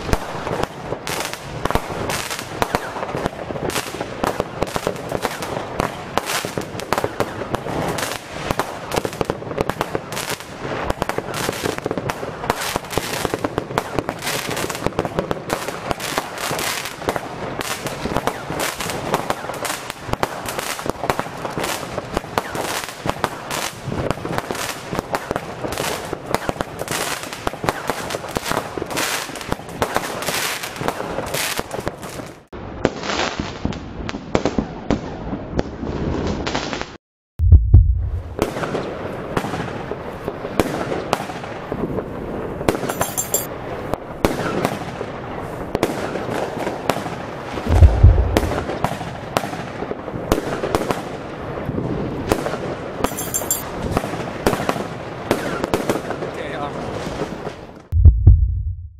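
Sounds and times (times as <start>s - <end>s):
fireworks shots and bangs: 0.0s - 58.9s.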